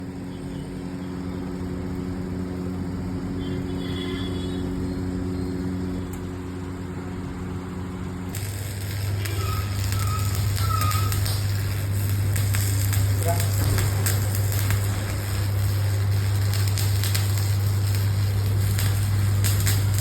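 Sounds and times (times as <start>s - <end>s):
workshop machine humming: 0.0s - 20.0s
arc welding crackle and buzz: 0.2s - 20.0s.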